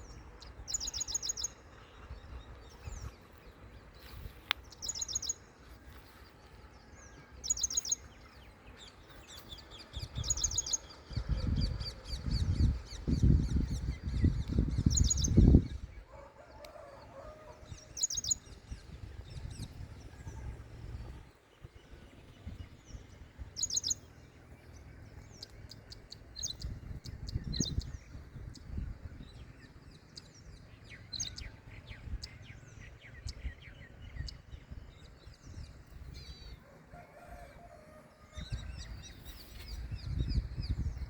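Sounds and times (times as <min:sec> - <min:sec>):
small birds chirping: 0:00.0 - 0:16.2, 0:17.2 - 0:36.6.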